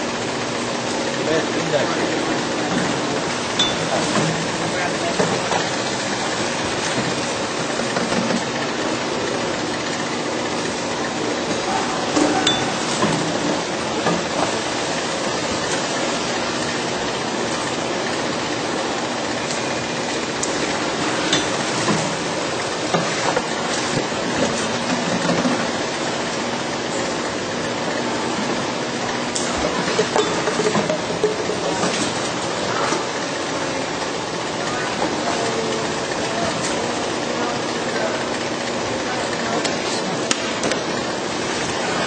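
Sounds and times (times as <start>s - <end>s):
filling machine humming: 0.0s - 42.0s.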